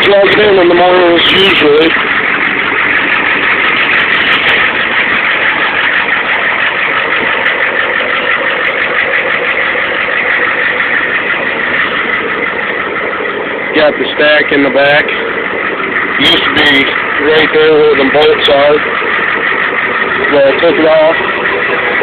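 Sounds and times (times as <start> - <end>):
diesel engine idling with clatter: 0.0 - 22.0.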